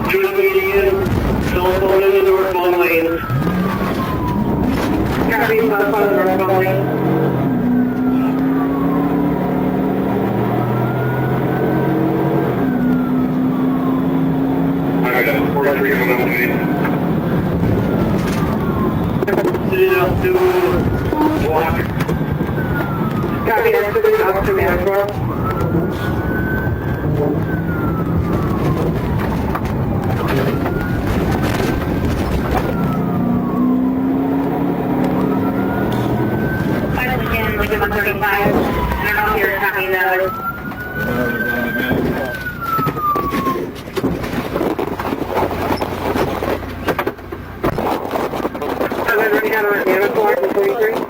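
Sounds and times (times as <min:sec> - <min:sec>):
police car engine: 0:00.0 - 0:51.0
siren wailing: 0:00.0 - 0:51.0.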